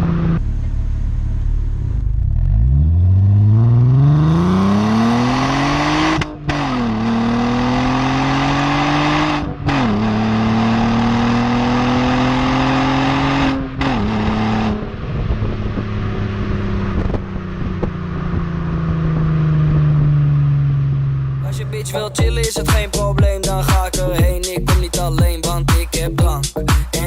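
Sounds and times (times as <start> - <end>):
car engine accelerating hard: 0.0 - 23.4.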